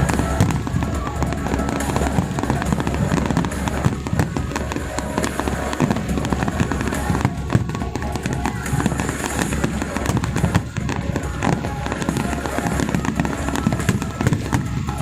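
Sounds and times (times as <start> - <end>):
crowd voices: 0.0 - 15.0
fireworks bangs and crackles: 0.0 - 15.0
music: 0.0 - 15.0.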